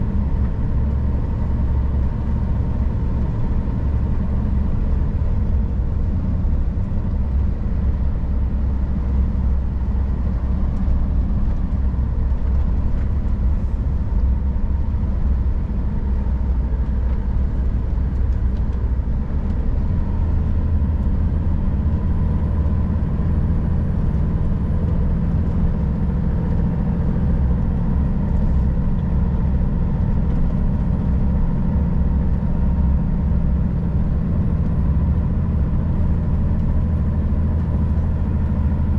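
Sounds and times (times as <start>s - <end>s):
road noise: 0.0s - 38.9s
truck diesel engine running: 0.0s - 38.9s.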